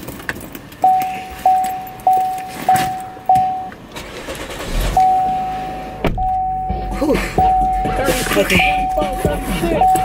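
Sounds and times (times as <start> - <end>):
car engine starting: 0.0 - 10.0
car warning chime dinging: 0.8 - 3.8, 5.0 - 10.0.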